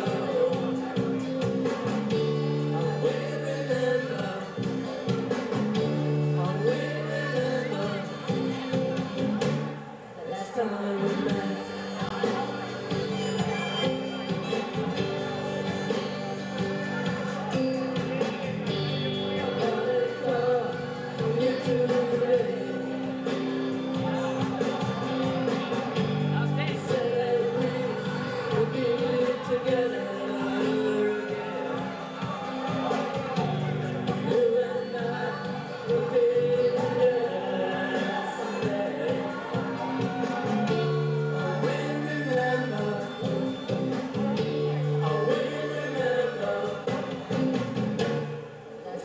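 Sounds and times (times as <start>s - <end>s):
live band playing: 0.0s - 9.8s, 11.0s - 48.6s
person singing: 0.0s - 49.0s.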